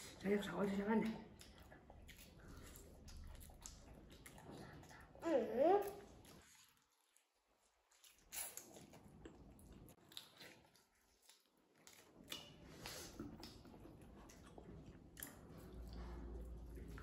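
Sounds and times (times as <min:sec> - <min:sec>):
people chewing and lip-smacking: 0:01.0 - 0:05.2, 0:05.8 - 0:17.0.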